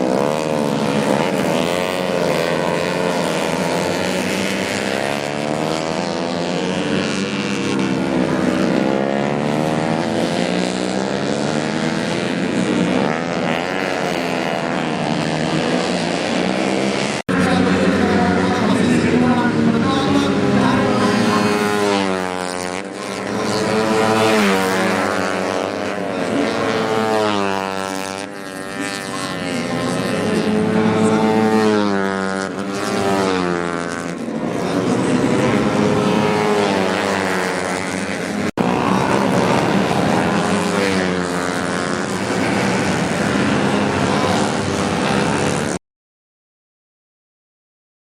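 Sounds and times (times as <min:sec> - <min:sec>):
motorcycles racing at full throttle: 0:00.0 - 0:45.8.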